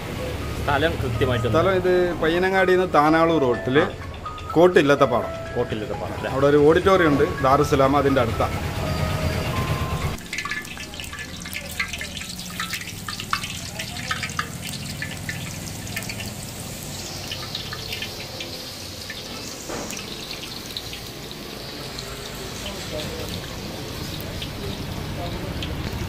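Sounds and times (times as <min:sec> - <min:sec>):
hot oil crackling and sizzling: 0:00.0 - 0:26.0.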